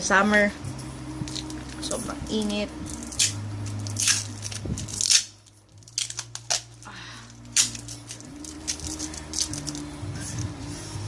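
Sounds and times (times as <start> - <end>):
electric fan humming: 0.0 - 11.0
tape being peeled and torn: 1.2 - 10.6.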